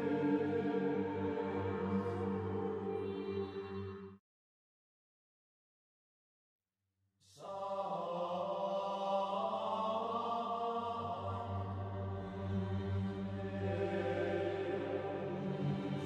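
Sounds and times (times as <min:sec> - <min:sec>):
slow chant-like music: 0:00.0 - 0:04.2, 0:07.3 - 0:16.0.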